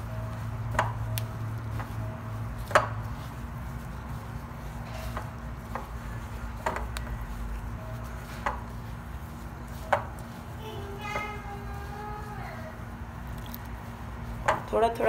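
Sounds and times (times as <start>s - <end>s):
hand rubbing flour in bowl: 0.0s - 15.0s
low steady hum: 0.0s - 15.0s.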